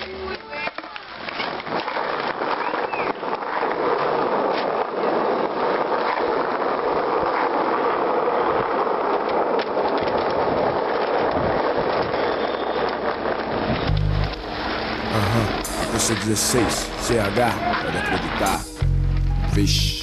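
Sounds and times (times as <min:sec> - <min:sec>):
skateboard wheels clicking over cracks: 0:00.0 - 0:19.5
skateboard wheels rolling on asphalt: 0:00.0 - 0:20.0.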